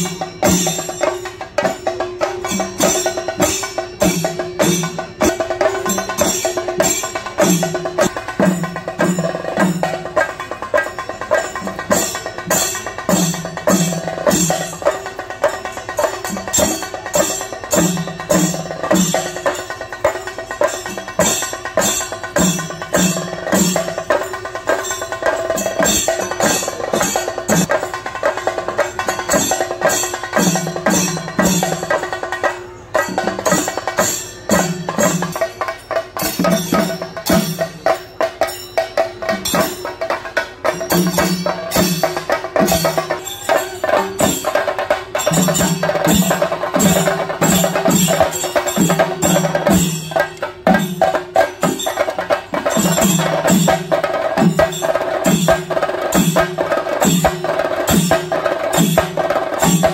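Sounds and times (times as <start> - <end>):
drums beaten fast with sticks: 0.0 - 59.9
steady metallic ringing: 0.0 - 59.9.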